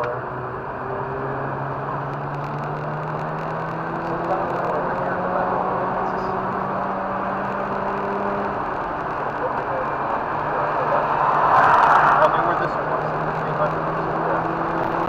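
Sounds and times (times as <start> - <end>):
road and wind noise: 0.0 - 15.0
rotary car engine running: 0.0 - 15.0.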